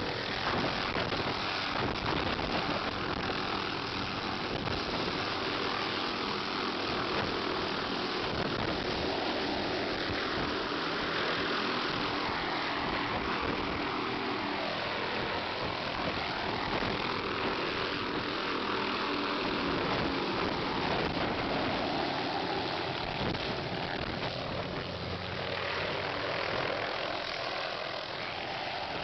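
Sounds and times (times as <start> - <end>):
helicopter hovering: 0.0 - 29.0.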